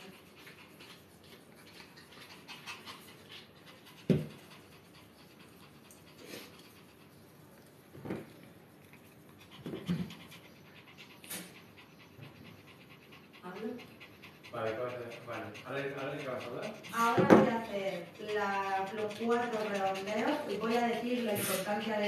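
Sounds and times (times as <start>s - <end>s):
dog panting: 0.0s - 22.0s.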